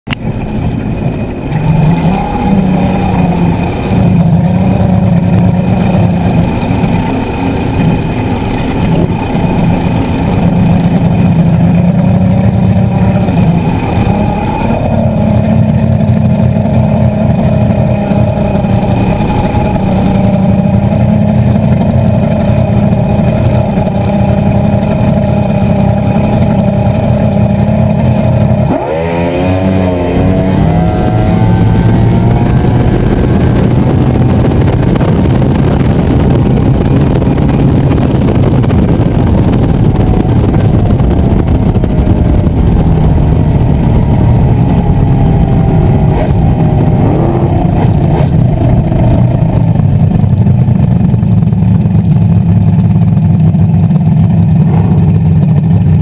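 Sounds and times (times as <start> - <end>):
speedboat engine: 0.0 - 56.0
rushing wind: 0.1 - 56.0.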